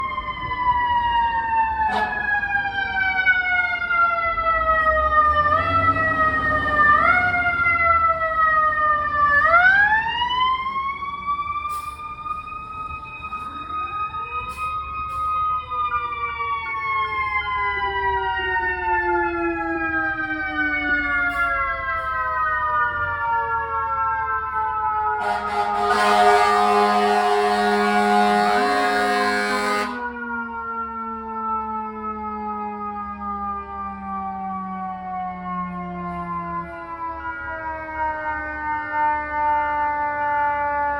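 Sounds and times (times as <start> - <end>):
fainter second siren: 0.0 - 40.9
fire truck siren wailing: 0.0 - 40.9
truck engines rumbling: 0.0 - 40.9.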